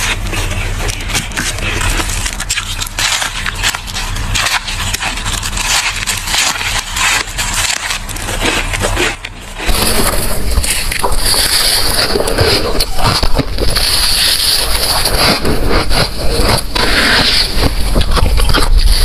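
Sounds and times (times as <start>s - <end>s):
ice crunching: 0.0s - 19.0s.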